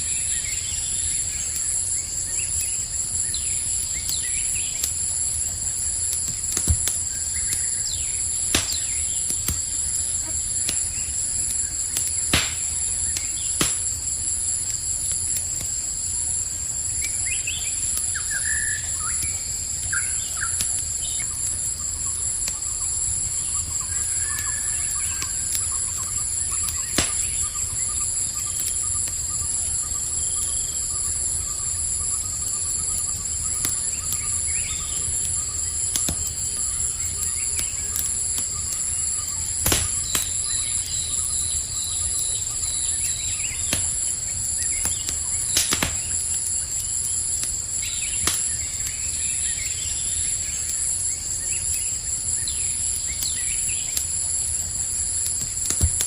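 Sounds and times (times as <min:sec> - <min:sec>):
campfire crackling: 0:00.0 - 0:56.0
crickets chirping: 0:00.0 - 0:56.0
sharp pops of fire: 0:00.1 - 0:56.0.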